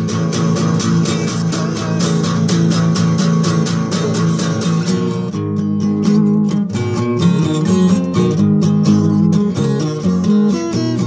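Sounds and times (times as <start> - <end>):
guitar strummed quickly: 0.0 - 11.0.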